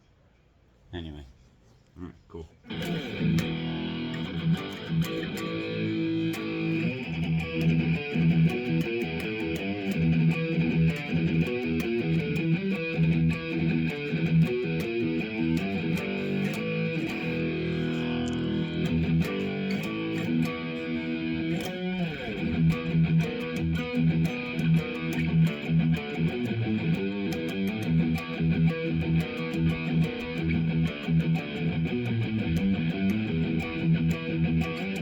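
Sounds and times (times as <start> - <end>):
electric guitar chords: 2.7 - 35.0.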